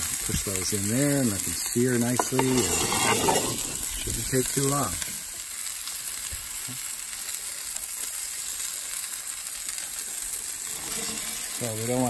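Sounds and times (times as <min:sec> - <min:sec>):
steaks sizzling in a skillet: 0:00.0 - 0:12.0.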